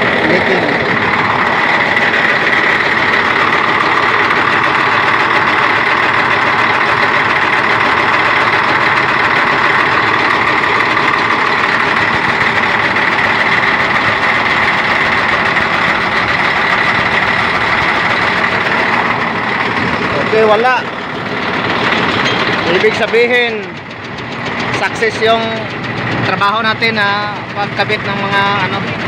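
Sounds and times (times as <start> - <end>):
crane engine idling: 0.0 - 29.0.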